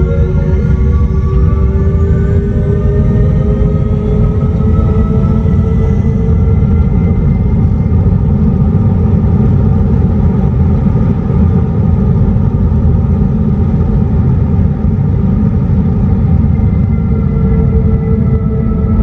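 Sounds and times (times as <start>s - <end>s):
faint steady warning tones: 0.0s - 19.0s
low vehicle rumble: 0.0s - 19.0s.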